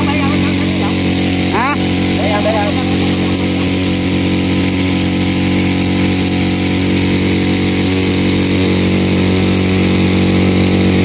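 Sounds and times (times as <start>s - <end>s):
water pump engine running: 0.0s - 11.0s.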